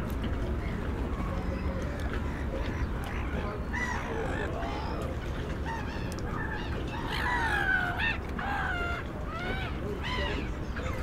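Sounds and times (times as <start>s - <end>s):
gulls calling: 0.5s - 11.0s.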